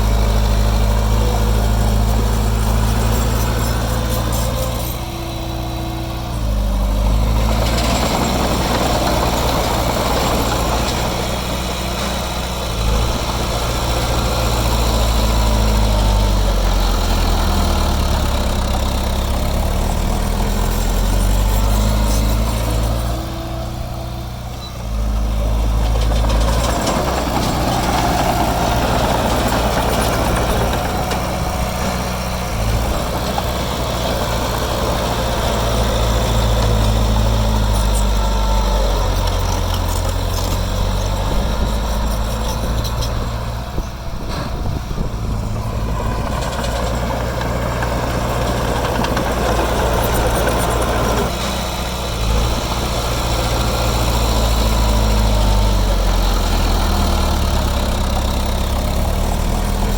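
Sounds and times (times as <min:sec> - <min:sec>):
heavy diesel engine working: 0:00.0 - 0:59.9.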